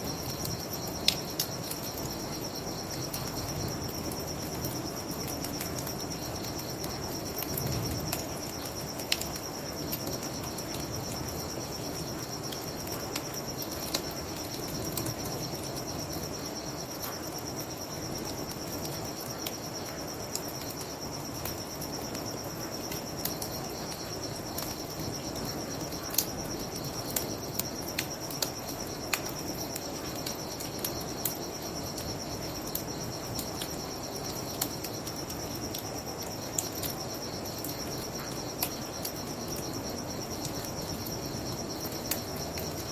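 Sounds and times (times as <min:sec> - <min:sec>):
crickets chirping: 0:00.0 - 0:42.9
wood fire crackling and popping: 0:00.0 - 0:42.9.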